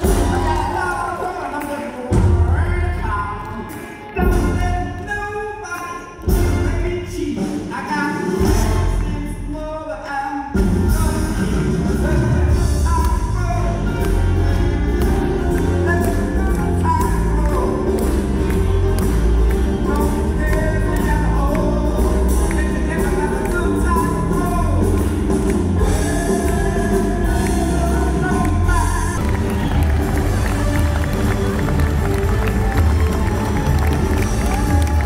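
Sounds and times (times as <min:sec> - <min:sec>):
man singing: 0:00.0 - 0:19.0, 0:19.7 - 0:29.3
big band playing: 0:00.0 - 0:35.0.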